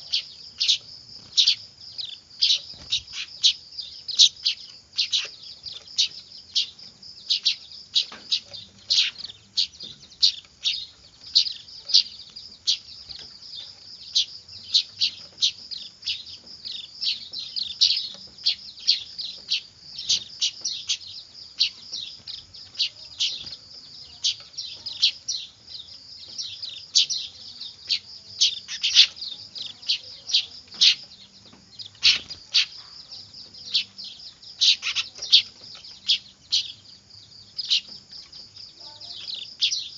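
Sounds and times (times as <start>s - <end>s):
bird chicks chirping: 0.0s - 39.9s.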